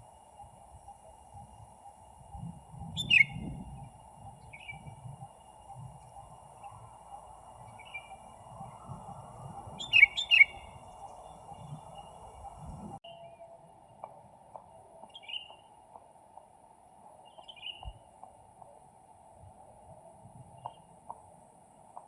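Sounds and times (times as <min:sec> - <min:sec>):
bird chirping: 0:00.3 - 0:16.5, 0:17.2 - 0:18.3, 0:20.4 - 0:21.2.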